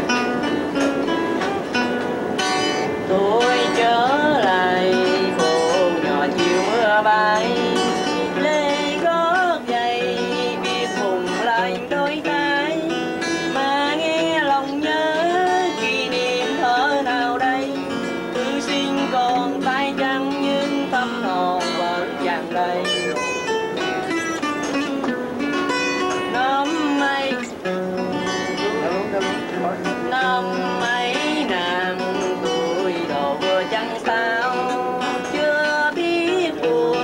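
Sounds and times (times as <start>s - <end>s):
guitar strummed and plucked: 0.0s - 37.0s
person singing: 3.0s - 27.7s, 28.6s - 37.0s.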